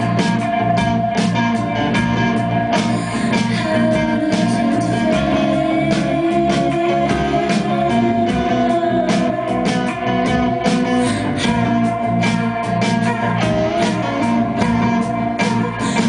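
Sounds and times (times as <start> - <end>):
drum kit beating: 0.0 - 16.0
electric guitars: 0.0 - 16.0
keyboards: 0.0 - 16.0.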